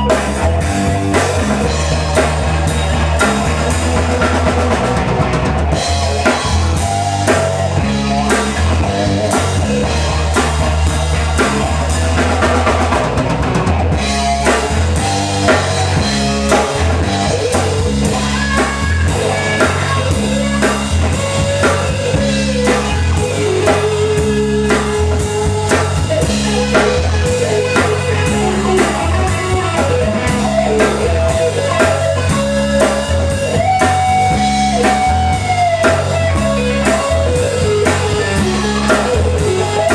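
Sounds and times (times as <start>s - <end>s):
bass notes: 0.0s - 39.9s
drum kit beat: 0.0s - 39.9s
electric guitar: 0.0s - 39.9s.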